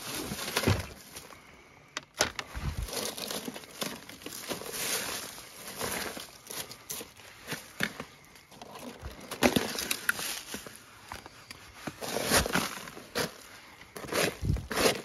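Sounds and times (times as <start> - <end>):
dry leaves and twigs rustling: 0.0 - 15.0.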